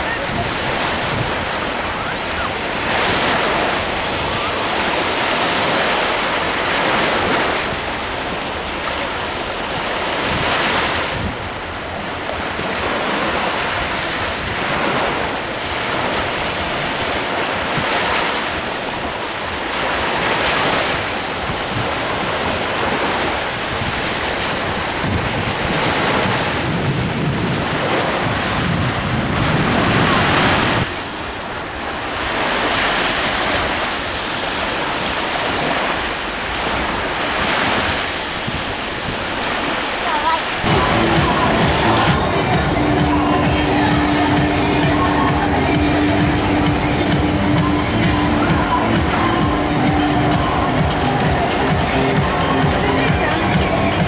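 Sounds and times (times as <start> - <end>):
sea waves breaking on beach: 0.0 - 54.0
wind on microphone: 0.0 - 54.0.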